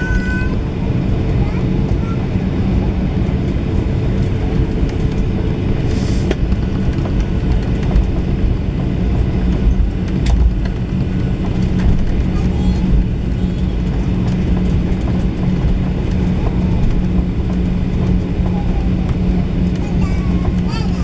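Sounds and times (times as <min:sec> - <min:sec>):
aircraft cabin hum: 0:00.0 - 0:21.0
jet engines idling rumble: 0:00.0 - 0:21.0.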